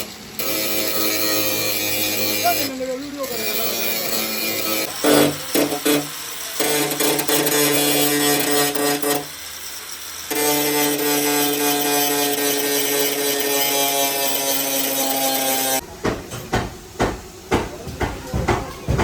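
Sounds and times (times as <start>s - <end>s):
electric power tool running: 0.0s - 15.8s.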